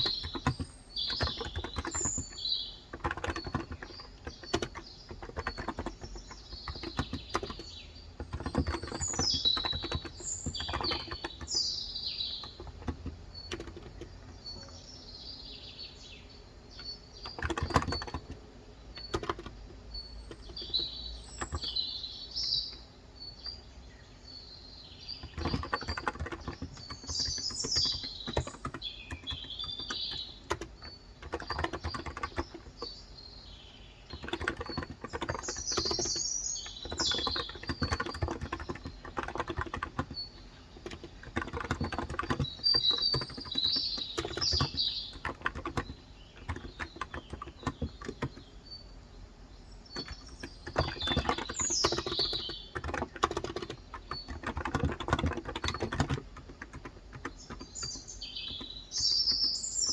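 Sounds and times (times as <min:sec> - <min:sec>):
keyboard typing: 0:00.0 - 0:14.9, 0:16.7 - 0:22.9, 0:25.1 - 0:33.0, 0:34.0 - 0:48.6, 0:49.8 - 0:59.9
small birds chirping: 0:00.0 - 0:59.9.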